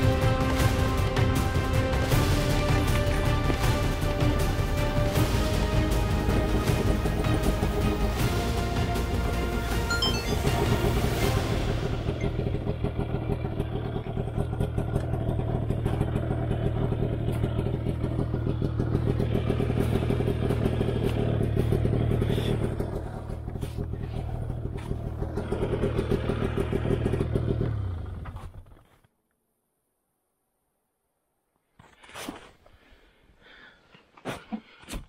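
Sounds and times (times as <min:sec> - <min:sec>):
snowmobile engine running: 0:00.0 - 0:28.7.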